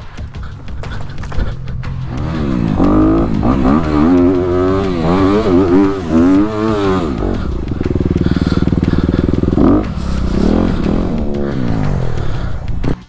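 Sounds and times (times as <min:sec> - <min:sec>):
dirt bike engine revving: 0:00.4 - 0:13.0.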